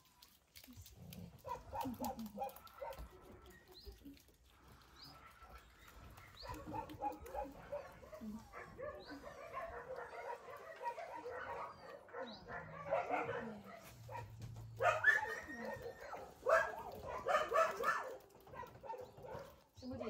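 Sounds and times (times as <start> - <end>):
puppies yapping: 1.4 - 19.8.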